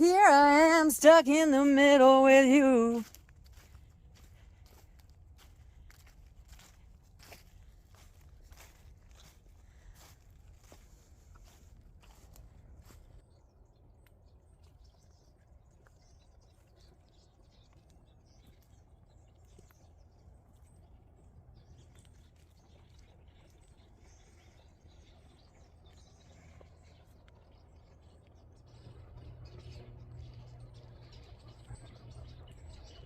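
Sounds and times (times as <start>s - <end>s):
low steady rumble: 2.8s - 33.0s
faint chirps and ticks: 3.1s - 33.0s.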